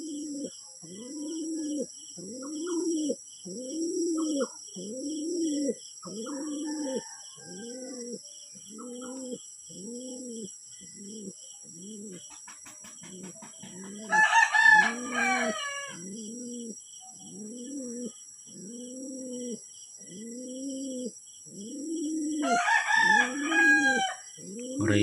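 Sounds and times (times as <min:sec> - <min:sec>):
pigeon cooing: 0:00.0 - 0:25.0.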